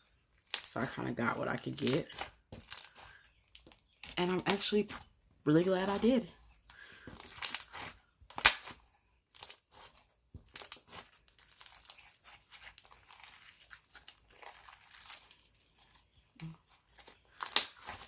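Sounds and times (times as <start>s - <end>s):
slime crackling and popping: 0.1s - 1.0s, 1.6s - 5.1s, 7.1s - 18.0s.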